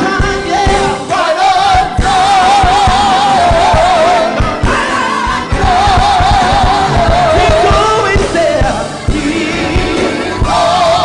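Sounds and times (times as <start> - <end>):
gospel choir singing: 0.0 - 11.0
live band playing: 0.0 - 11.0
steady drum beat: 0.0 - 11.0.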